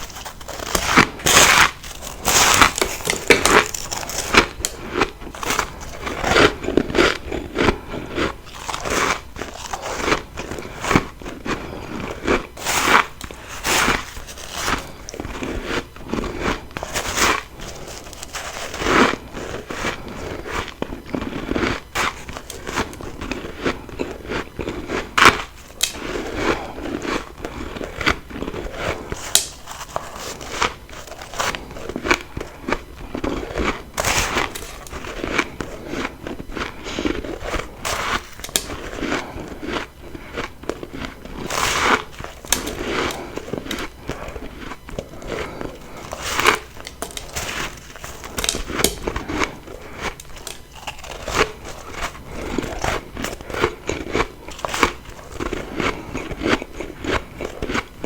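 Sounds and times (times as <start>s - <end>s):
bites crunching frost: 0.0s - 58.0s.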